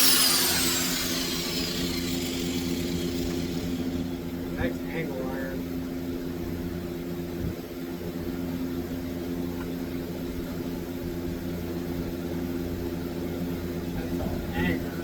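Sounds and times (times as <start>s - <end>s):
motor humming steadily: 0.0s - 15.0s.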